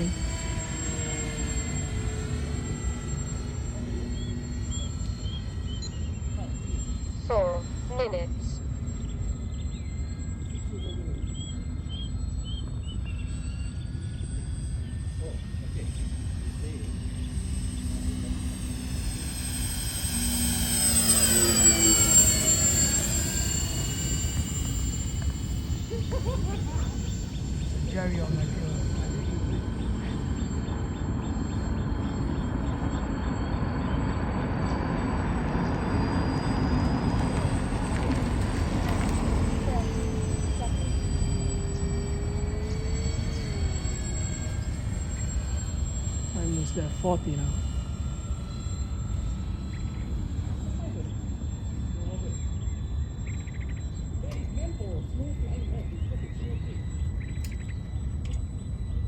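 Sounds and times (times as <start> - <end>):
small bird chirping: 0.0 - 34.8, 37.7 - 59.0
faint high whine of electric motors: 0.0 - 59.0
model plane propellers running: 0.0 - 59.0.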